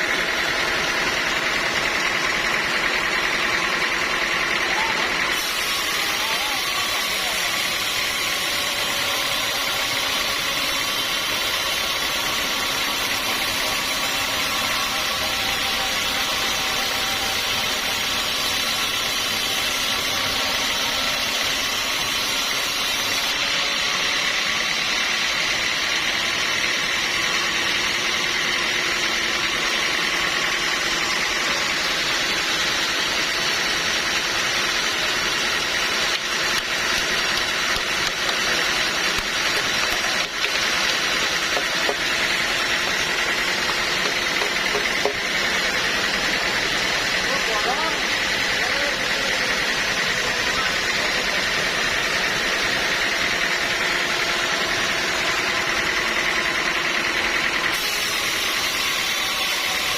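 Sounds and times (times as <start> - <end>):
sawmill machinery drone: 0.0 - 59.9
machine whining tones: 4.0 - 59.9.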